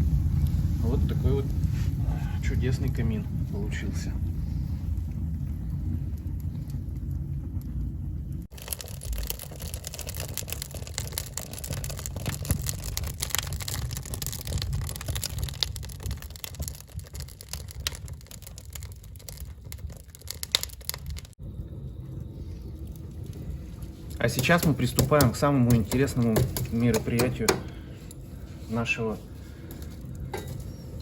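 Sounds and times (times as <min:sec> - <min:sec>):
logs crackling and popping: 0:00.0 - 0:31.0
low rumble: 0:00.0 - 0:31.0.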